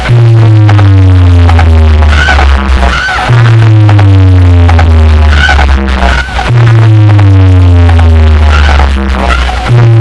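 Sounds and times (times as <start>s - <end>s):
loud electronic dance music: 0.0s - 10.0s.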